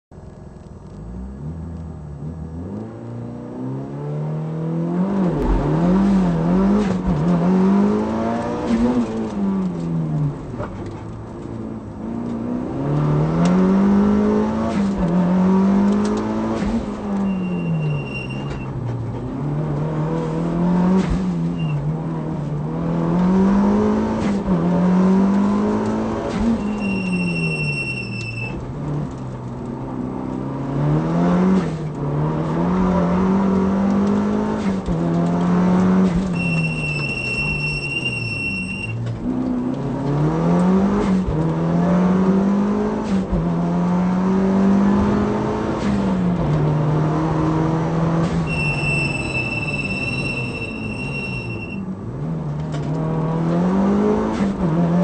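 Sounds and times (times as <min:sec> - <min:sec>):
rally car engine revving: 0:00.8 - 0:55.0.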